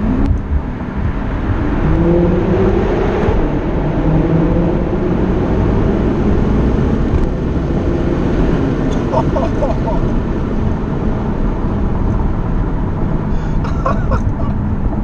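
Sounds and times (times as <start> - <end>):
car engine accelerating hard: 0.0 - 15.0
road noise: 0.0 - 15.0.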